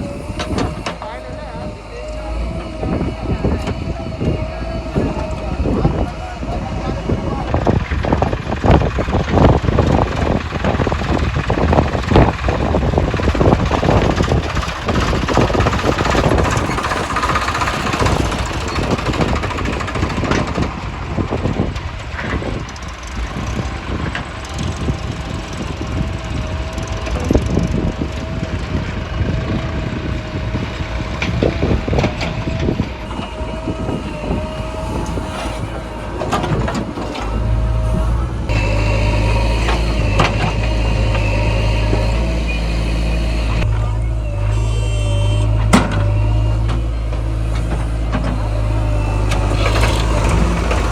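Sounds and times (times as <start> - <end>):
diesel engines under load: 0.0 - 50.9
steady wavering whine: 0.0 - 50.9.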